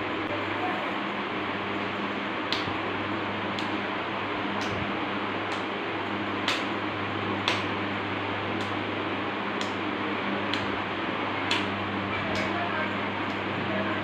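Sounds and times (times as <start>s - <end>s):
room fan humming: 0.0s - 14.0s.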